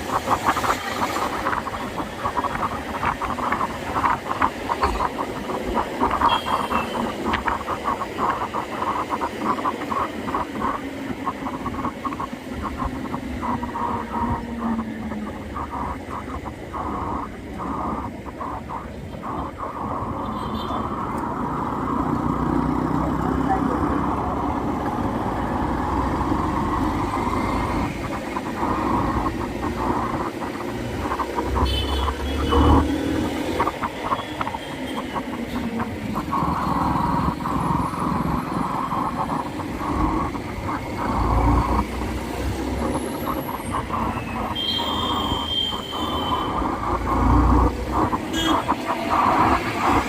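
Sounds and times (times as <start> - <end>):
wind buffeting microphone: 0.0 - 44.6
road noise: 0.0 - 50.0.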